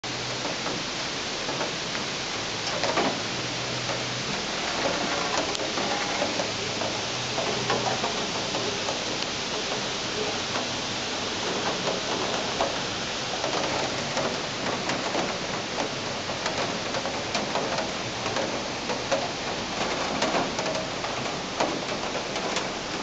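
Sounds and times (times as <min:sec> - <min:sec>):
raindrops pattering on surfaces: 0:00.0 - 0:23.0
steady rain falling: 0:00.0 - 0:23.0.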